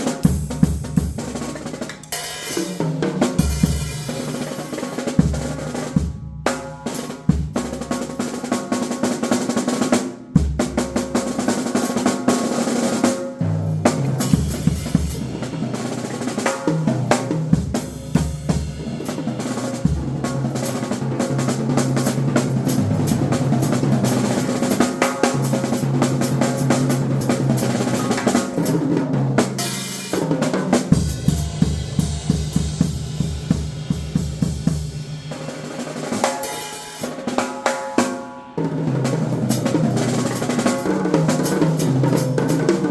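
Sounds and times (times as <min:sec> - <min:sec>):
drum kit solo: 0:00.0 - 0:42.9.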